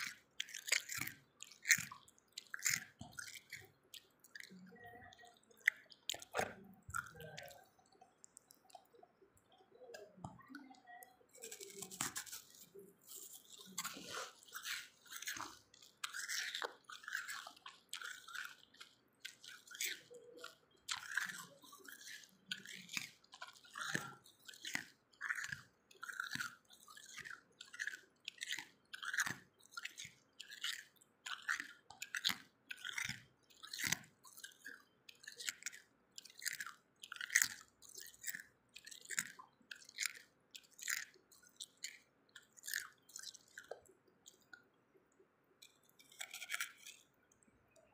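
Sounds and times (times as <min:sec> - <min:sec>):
person crunching ice: 0:00.0 - 0:04.6, 0:11.3 - 0:44.5, 0:45.6 - 0:47.0.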